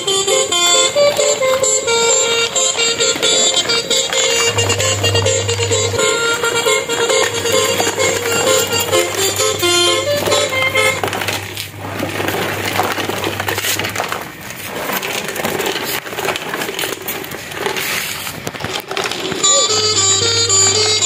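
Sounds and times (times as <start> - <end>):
plastic toy truck clattering: 0.0 - 5.1, 6.0 - 21.0.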